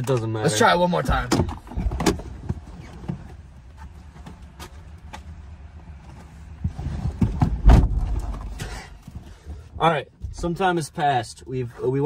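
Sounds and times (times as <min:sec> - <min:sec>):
low steady car rumble: 0:00.0 - 0:12.0
rustling and soft thumps: 0:01.0 - 0:10.8.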